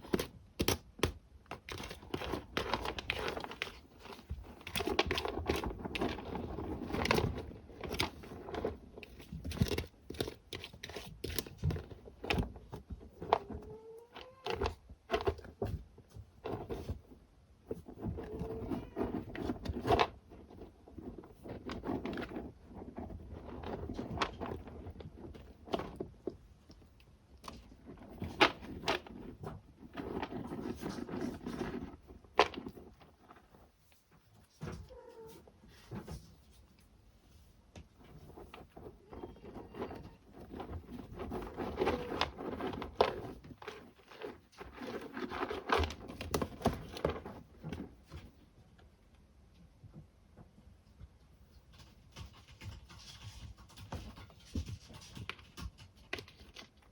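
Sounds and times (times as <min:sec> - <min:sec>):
kittens scratching in cat litter: 0:00.0 - 0:48.8, 0:51.4 - 0:56.9.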